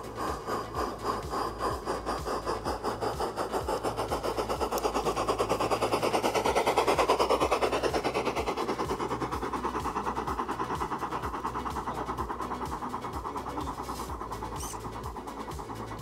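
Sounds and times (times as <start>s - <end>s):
model steam locomotive running: 0.0s - 16.0s.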